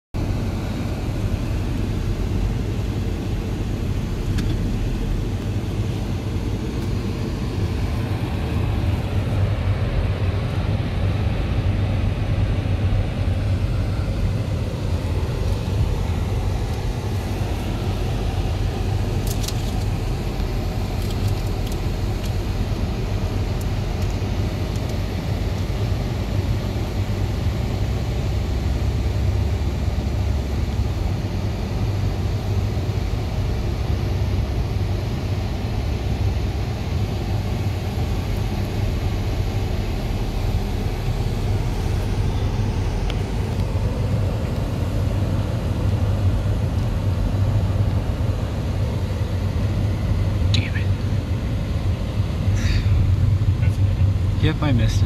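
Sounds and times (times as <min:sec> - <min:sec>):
low outdoor rumble: 0:00.1 - 0:55.0.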